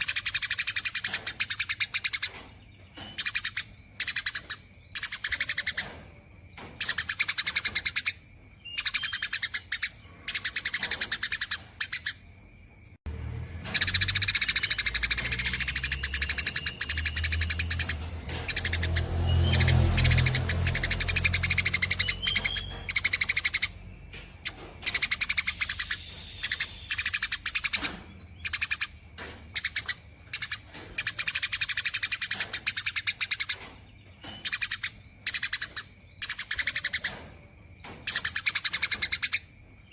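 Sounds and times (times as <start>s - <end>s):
sparrow chattering calls: 0.0s - 13.0s, 13.6s - 39.9s.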